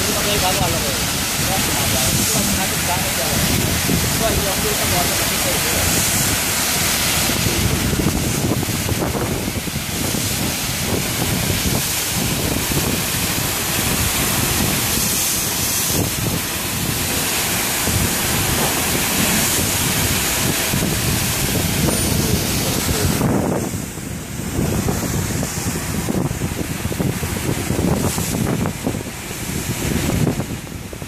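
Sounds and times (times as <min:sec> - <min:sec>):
crate-washing machine running: 0:00.0 - 0:31.0
water jets spraying: 0:00.0 - 0:31.0.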